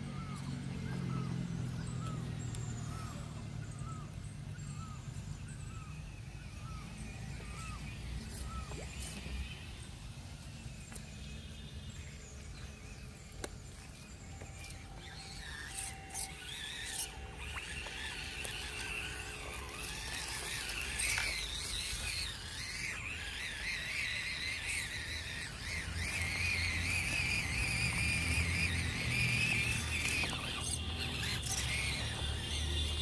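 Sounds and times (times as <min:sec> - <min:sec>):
electric motor and gears whining: 0:00.0 - 0:33.0.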